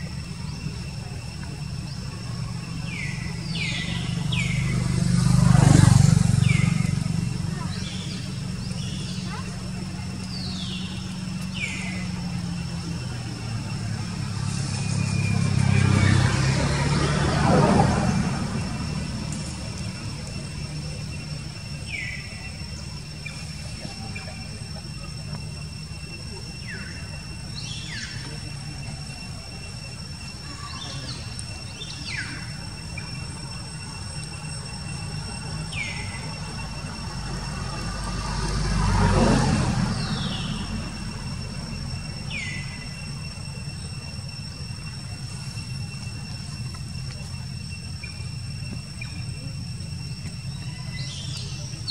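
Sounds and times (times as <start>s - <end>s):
faint high whine: 0.0s - 51.9s
falling whistle-like calls: 0.0s - 51.9s
vehicle engine humming: 0.0s - 51.9s.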